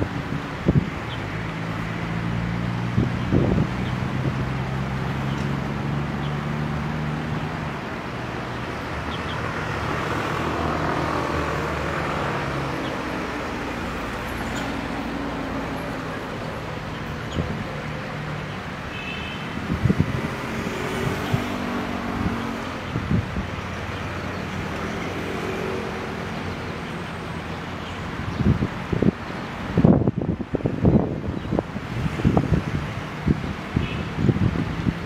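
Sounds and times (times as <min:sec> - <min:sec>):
road traffic hum: 0:00.0 - 0:35.0.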